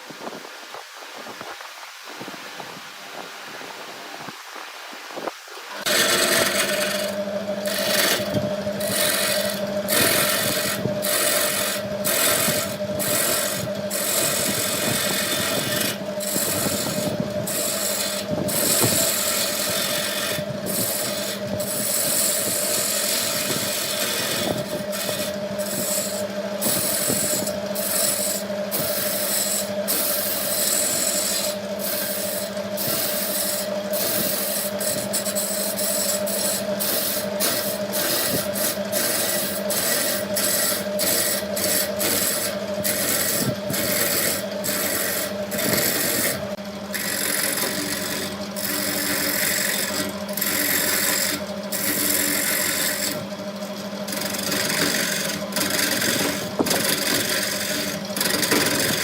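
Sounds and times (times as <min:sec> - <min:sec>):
tool scraping spinning wood: 0:05.7 - 0:59.0
lathe motor hum: 0:05.8 - 0:59.0.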